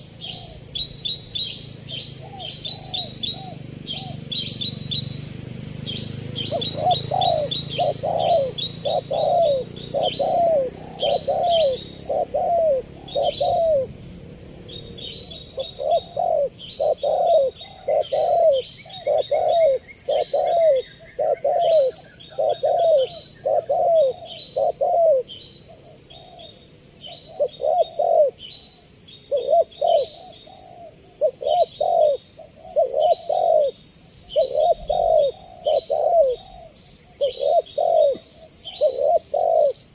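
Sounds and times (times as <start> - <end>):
dove cooing: 0.0 - 28.6, 29.3 - 39.9
small birds chirping: 0.0 - 39.9.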